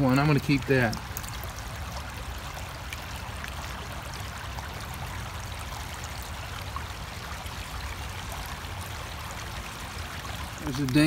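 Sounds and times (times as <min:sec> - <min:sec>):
creek water trickling over rocks: 0:00.0 - 0:11.0.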